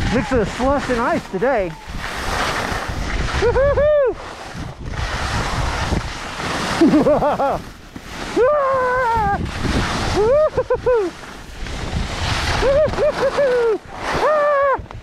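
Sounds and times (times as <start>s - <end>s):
skis scraping on icy snow: 0.0s - 15.0s
wind on microphone: 0.0s - 15.0s.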